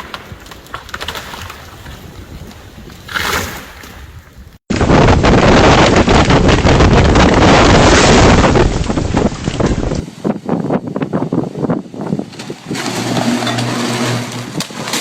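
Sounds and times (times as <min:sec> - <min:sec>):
wind buffeting microphone: 0:01.3 - 0:13.5.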